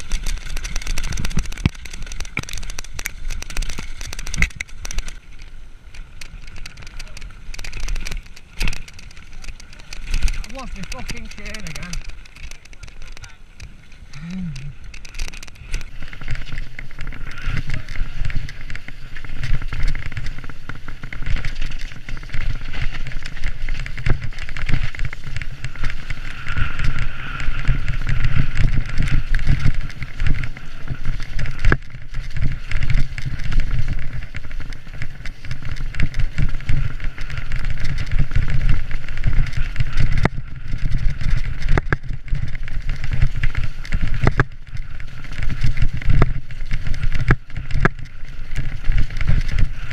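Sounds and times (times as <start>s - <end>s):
bike rattling and knocking: 0.0s - 49.9s
wind and tyres on dirt: 0.0s - 49.9s.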